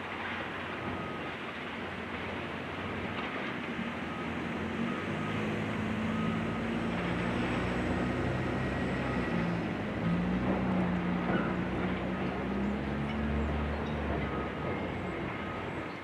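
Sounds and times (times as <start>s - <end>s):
heavy engine low hum: 0.0s - 16.0s.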